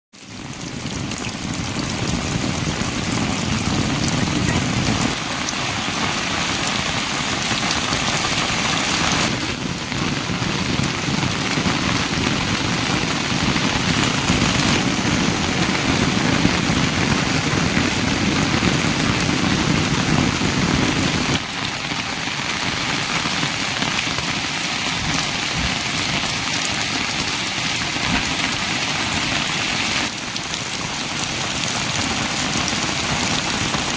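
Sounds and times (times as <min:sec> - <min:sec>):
heavy rain pouring: 0:00.2 - 0:33.9.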